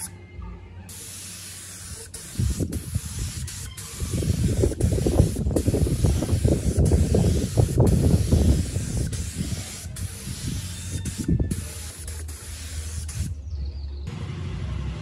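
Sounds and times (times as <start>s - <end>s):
spray gun hissing: 0.9s - 13.3s.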